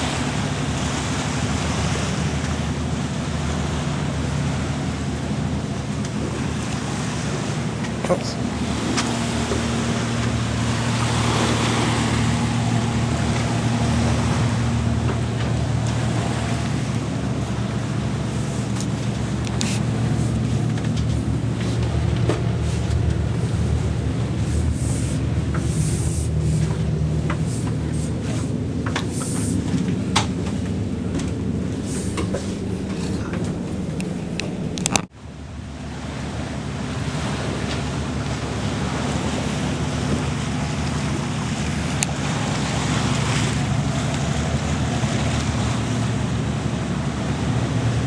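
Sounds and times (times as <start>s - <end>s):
machinery humming: 0.0s - 48.0s.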